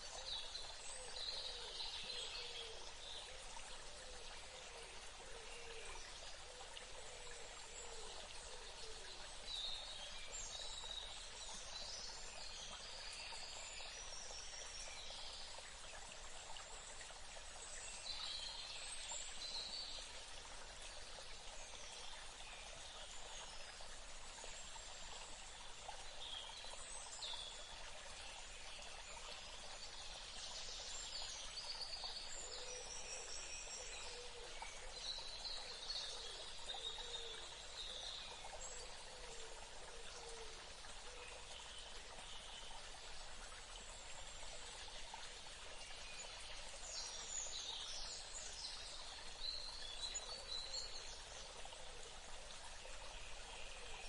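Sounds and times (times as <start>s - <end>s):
flowing water hiss: 0.0s - 54.0s.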